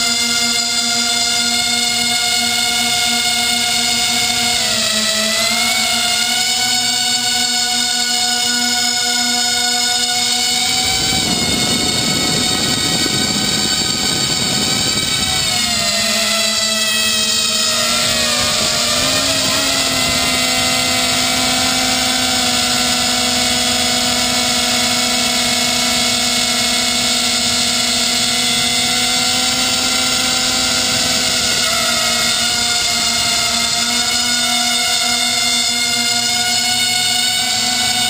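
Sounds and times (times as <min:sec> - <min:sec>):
quadcopter motors whining: 0:00.0 - 0:38.0.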